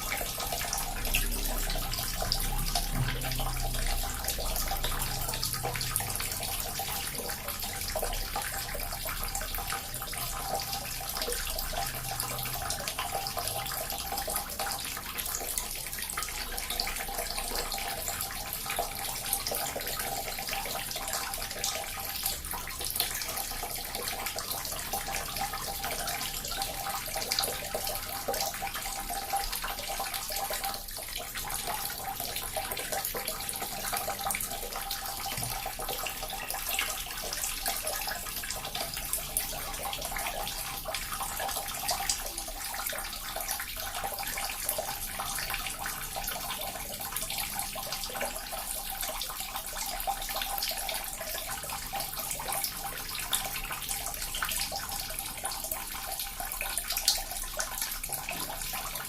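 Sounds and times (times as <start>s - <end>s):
water fountain splashing: 0.0s - 59.0s.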